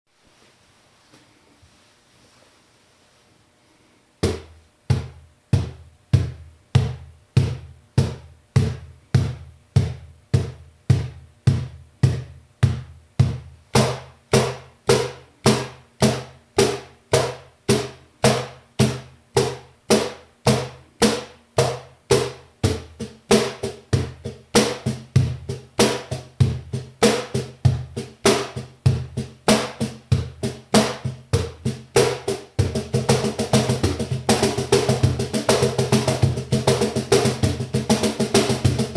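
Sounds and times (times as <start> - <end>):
cajon drum played by hand: 4.2 - 38.9.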